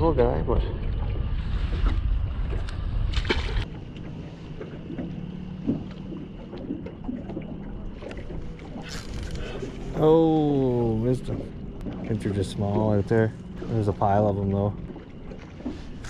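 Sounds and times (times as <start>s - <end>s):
low steady hum: 0.0s - 16.0s
water slapping against boat hull: 1.0s - 10.0s, 10.9s - 16.0s.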